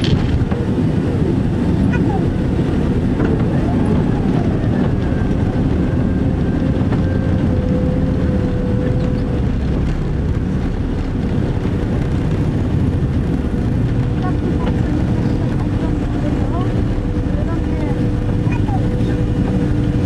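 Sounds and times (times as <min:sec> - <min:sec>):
jet cabin rumble and roar: 0:00.0 - 0:20.0.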